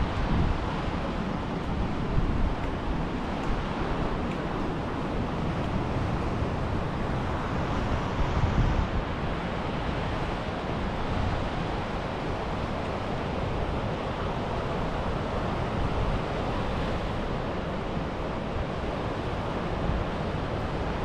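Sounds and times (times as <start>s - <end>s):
sea waves washing on beach: 0.0s - 21.0s
wind rumbling on microphone: 0.0s - 21.0s.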